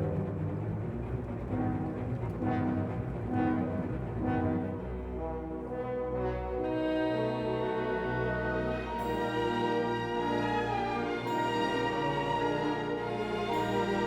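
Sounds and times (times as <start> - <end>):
brass notes: 0.0 - 14.0
low sustained orchestral chord: 0.0 - 14.0.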